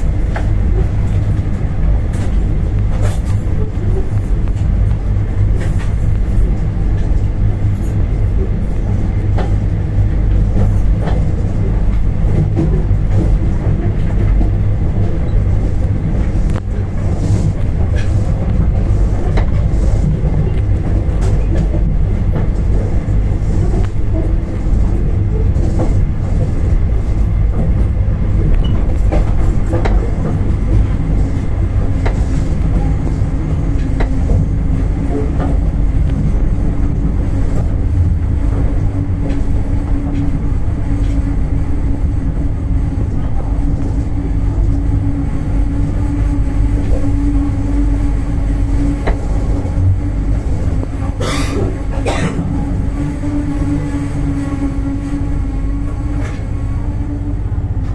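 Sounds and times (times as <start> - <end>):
steady low tone: 0.0 - 57.9
train coaches rumbling: 0.0 - 57.9.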